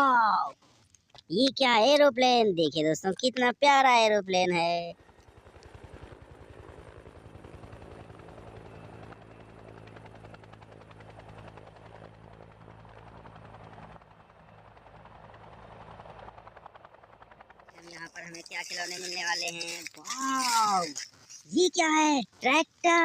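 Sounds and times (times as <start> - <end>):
whirring propeller drone: 0.0 - 23.0.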